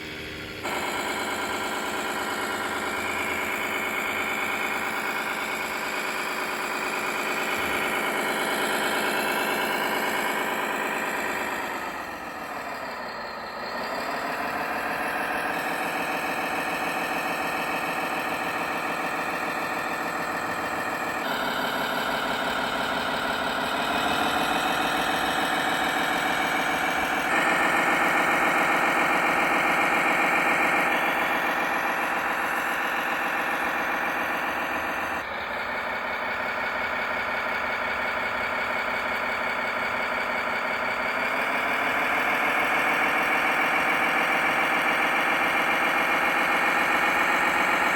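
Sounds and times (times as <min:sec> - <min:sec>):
simulated diesel engine revving: 0:00.0 - 0:47.9.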